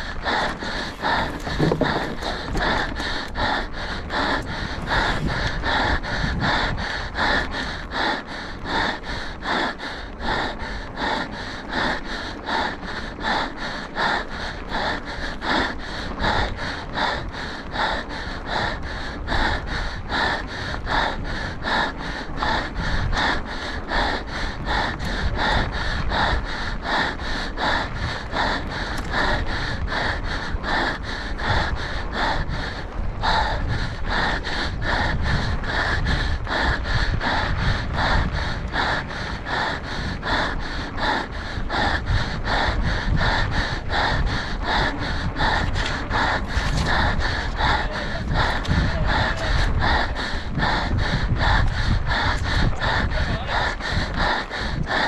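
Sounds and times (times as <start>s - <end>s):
heavy breathing from exertion: 0.0s - 55.0s
steady low rumble: 0.0s - 55.0s.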